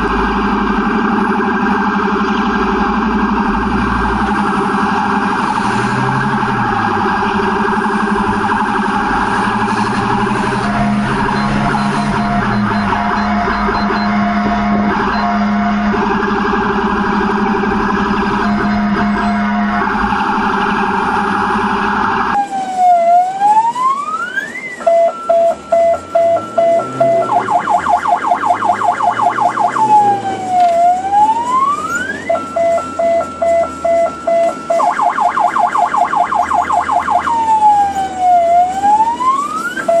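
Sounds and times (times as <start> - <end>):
ambulance siren wailing: 0.0 - 40.0
vehicle hum: 0.0 - 40.0.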